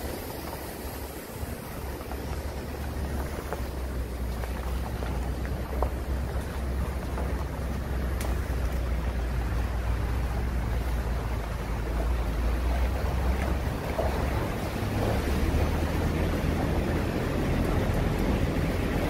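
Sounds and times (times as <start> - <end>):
vehicle driving over wet floor: 1.8 - 19.0.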